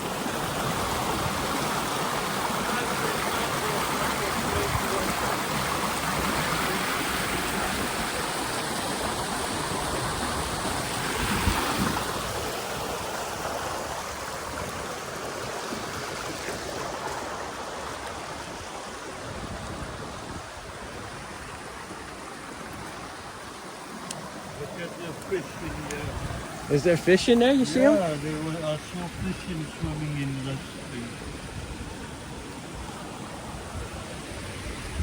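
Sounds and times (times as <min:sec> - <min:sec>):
rushing stream water: 0:00.0 - 0:35.0.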